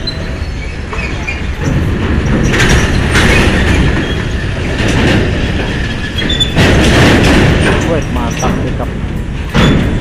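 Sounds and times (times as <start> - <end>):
tyres rolling onto steel grating: 0.0 - 10.0
heavy clanks of ramp plates: 0.1 - 10.0.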